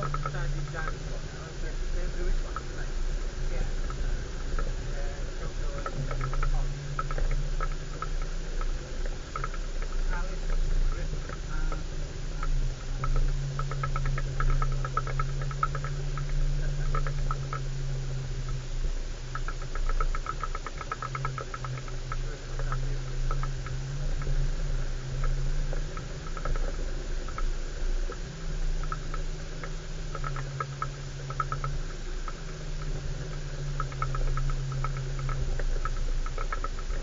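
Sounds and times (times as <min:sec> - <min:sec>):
low rumble: 0:00.0 - 0:37.0
off-road vehicle engine: 0:00.0 - 0:37.0
rapid light rattling clicks: 0:00.0 - 0:37.0.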